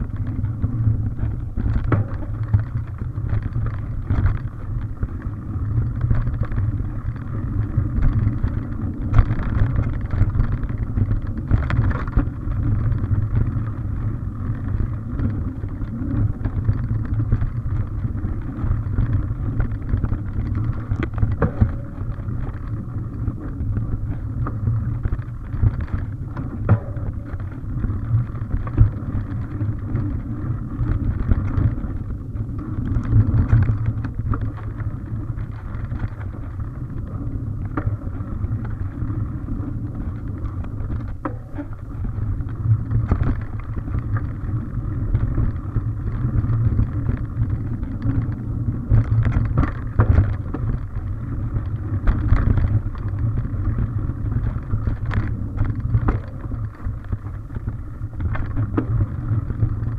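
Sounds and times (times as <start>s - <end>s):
bike rattling and knocking: 0.0s - 59.9s
bike tyre noise: 0.0s - 59.9s
wind rumble on microphone: 0.0s - 59.9s.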